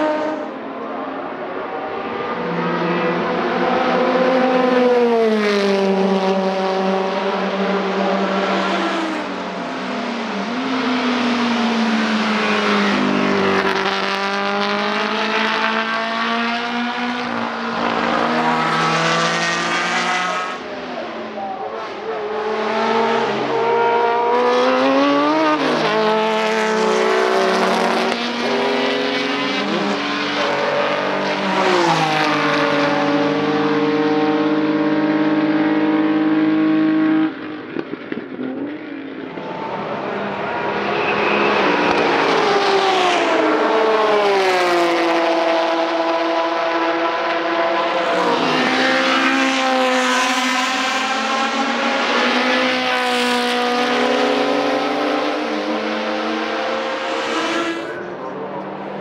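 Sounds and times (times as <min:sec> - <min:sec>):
racing car engines at full throttle: 0:00.0 - 0:59.0.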